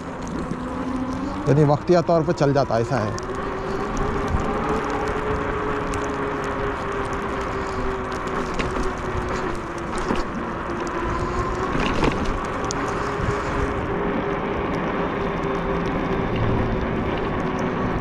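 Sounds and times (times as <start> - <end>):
electric motor hum: 0.0 - 18.0.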